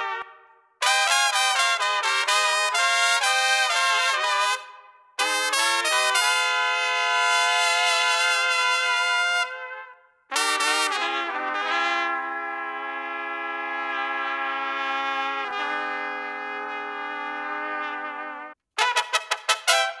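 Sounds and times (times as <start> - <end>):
plastic trumpet playing: 0.0 - 20.0.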